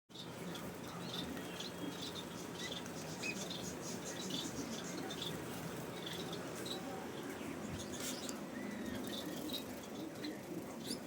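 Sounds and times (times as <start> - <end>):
finches peeping: 0.1 - 11.0.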